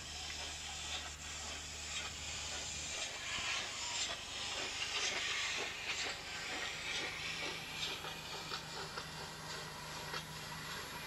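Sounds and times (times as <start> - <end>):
wooden toy train rolling on track: 0.0 - 11.0.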